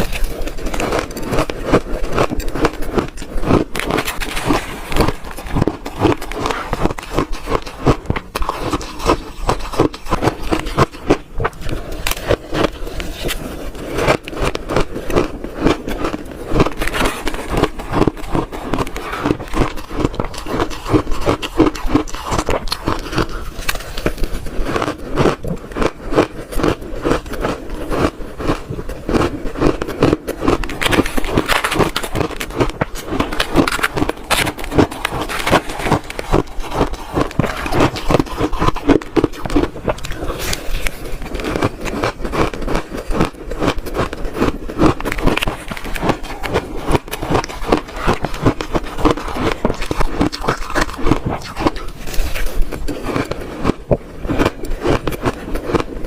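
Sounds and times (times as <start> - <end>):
person chewing shaved ice: 0.0 - 56.0.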